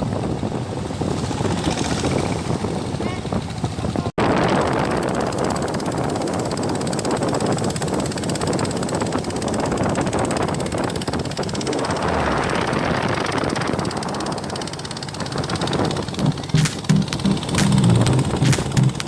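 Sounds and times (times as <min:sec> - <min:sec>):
motorboat engine running: 0:00.1 - 0:19.0.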